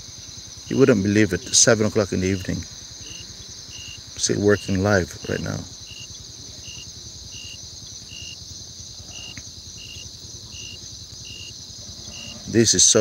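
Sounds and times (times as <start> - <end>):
crickets shrilling: 0.0 - 13.0
short insect chirp: 0.0 - 13.0.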